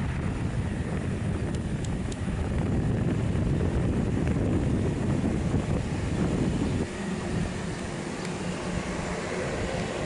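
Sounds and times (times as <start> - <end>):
distant turboprop engines rumbling: 0.0 - 10.0.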